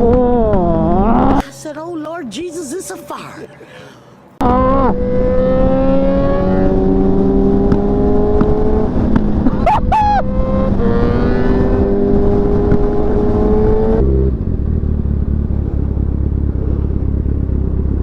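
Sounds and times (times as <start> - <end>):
motorcycle engine revving: 0.0 - 1.4, 4.4 - 18.0.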